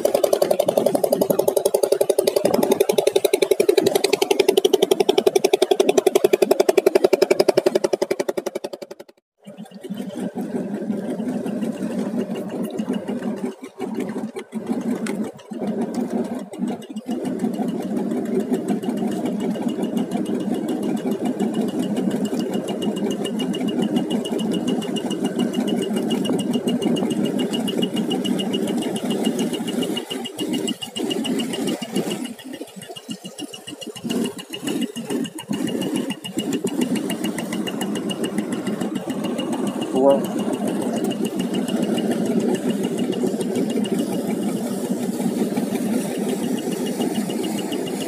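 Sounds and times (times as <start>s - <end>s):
engine running with rattling drone: 0.0s - 48.0s.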